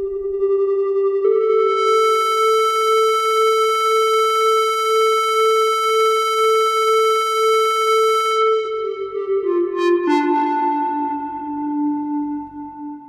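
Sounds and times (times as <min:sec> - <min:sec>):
synthesizer holding a long note: 0:00.0 - 0:13.0.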